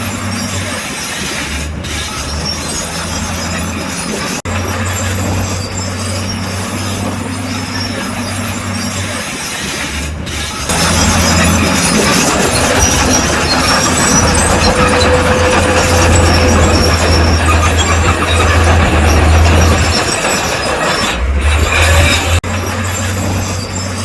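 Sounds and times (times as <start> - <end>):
diesel engine under load: 0.0 - 24.0
steel tracks clanking and squealing: 0.0 - 24.0.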